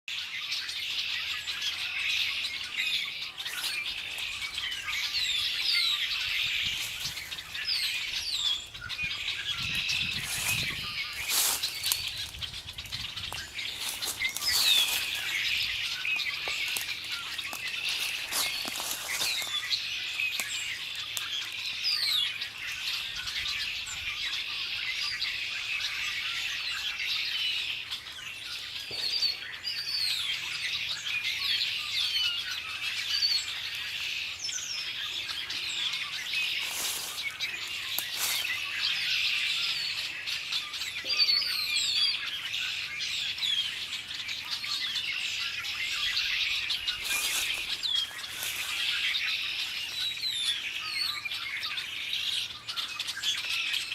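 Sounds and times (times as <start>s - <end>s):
blackbirds calling and singing: 0.1s - 53.9s.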